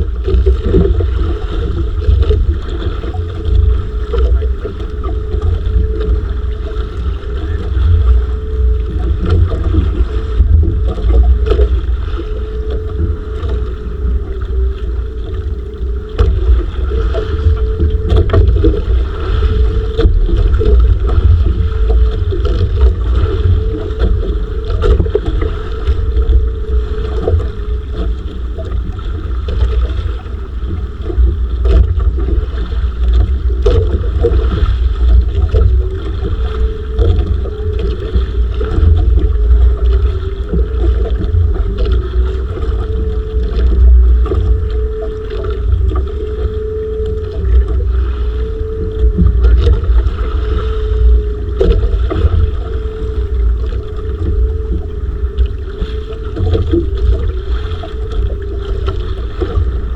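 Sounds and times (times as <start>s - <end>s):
boat engine droning: 0.0s - 59.9s
wind buffeting microphone: 0.0s - 59.9s.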